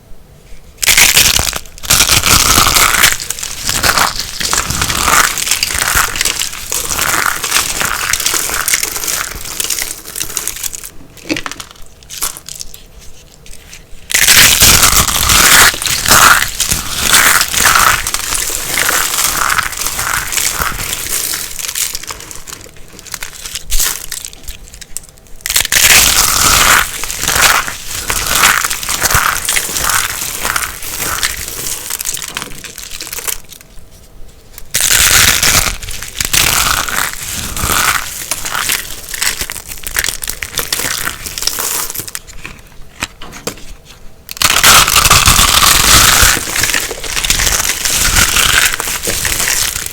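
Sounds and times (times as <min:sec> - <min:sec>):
dry soap crunching: 0:00.8 - 0:49.9.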